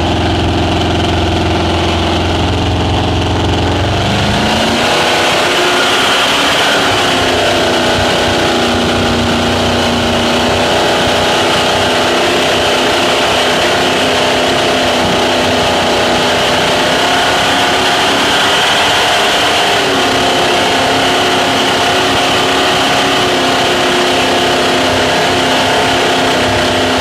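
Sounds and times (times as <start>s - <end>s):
rushing noise: 0.0s - 27.0s
speedboat engine running: 0.0s - 27.0s.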